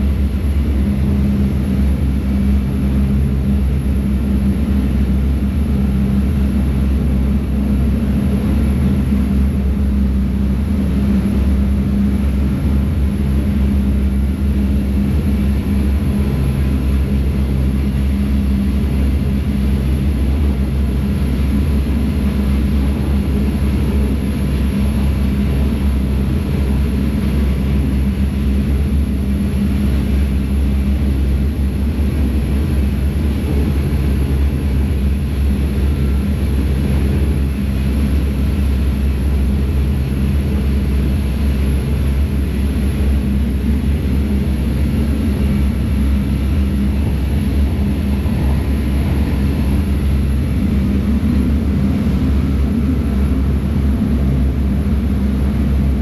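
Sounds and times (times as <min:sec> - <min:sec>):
ferry diesel engines droning: 0:00.0 - 0:56.0
water rushing from wake: 0:00.0 - 0:56.0.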